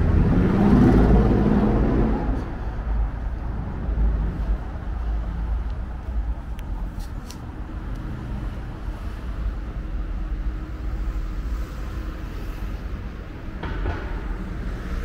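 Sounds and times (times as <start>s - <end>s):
passing cars rumbling: 0.0s - 15.0s.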